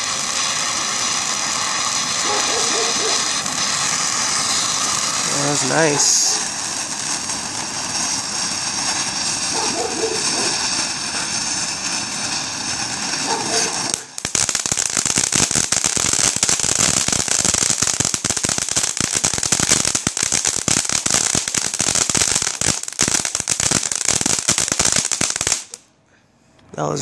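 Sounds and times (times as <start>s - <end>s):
firework fountain hissing sparks: 0.0s - 25.8s
rapid crackling stars: 0.0s - 25.8s.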